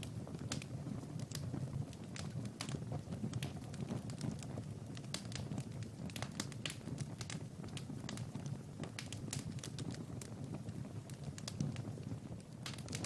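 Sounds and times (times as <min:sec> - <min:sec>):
low rumble of flame: 0:00.0 - 0:13.0
wood fire crackling: 0:00.0 - 0:13.0.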